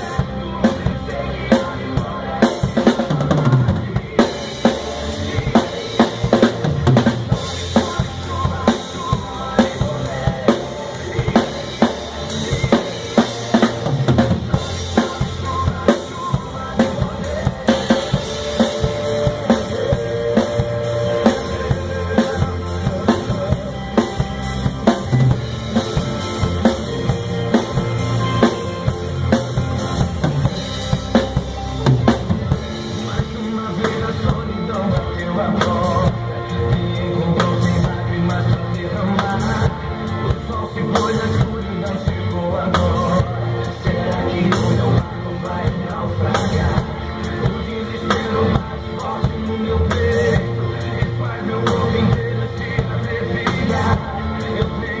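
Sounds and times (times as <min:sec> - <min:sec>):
backing track music: 0:00.0 - 0:55.0
drum kit groove: 0:00.0 - 0:55.0.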